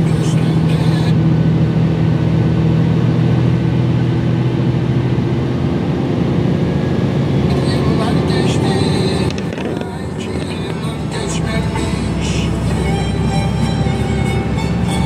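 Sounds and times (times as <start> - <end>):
car engine cruising: 0.0 - 15.0
tyre and road noise: 0.0 - 15.0.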